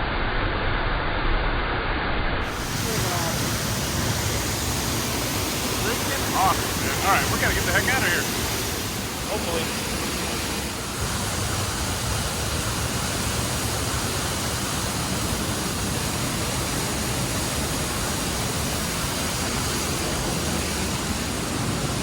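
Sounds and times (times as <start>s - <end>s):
waterfall pouring: 2.4s - 22.0s.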